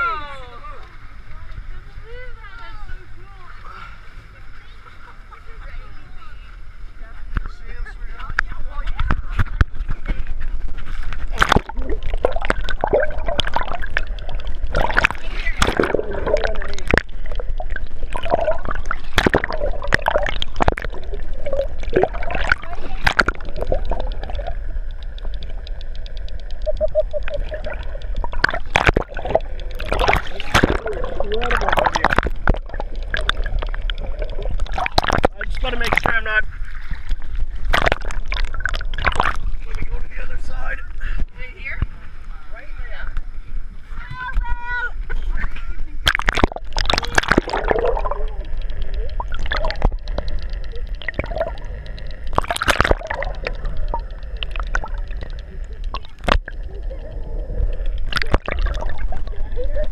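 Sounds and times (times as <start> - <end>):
underwater low rumble: 0.0 - 59.9
water sloshing and gurgling: 0.0 - 59.9
waves splashing over camera: 0.0 - 59.9
faint ticking: 8.2 - 59.9.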